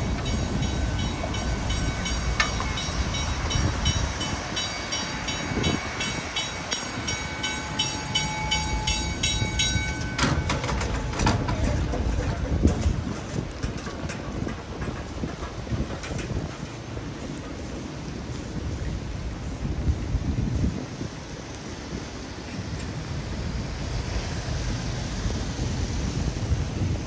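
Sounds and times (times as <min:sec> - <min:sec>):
train clatter: 0:00.0 - 0:27.0
train whine: 0:00.0 - 0:27.0.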